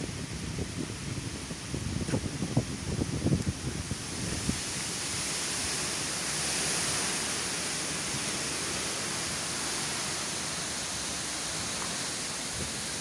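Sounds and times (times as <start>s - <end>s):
heavy rain: 0.0s - 13.0s
wind: 0.0s - 13.0s.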